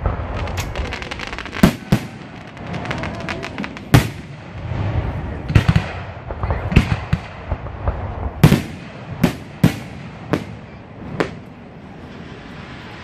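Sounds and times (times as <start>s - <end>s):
fireworks booms: 0.0s - 13.0s
fireworks crackling and popping: 0.0s - 13.0s.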